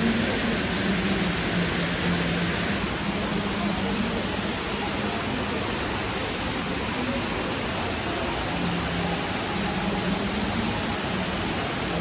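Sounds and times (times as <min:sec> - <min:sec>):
indoor waterfall rushing: 0:00.0 - 0:12.0.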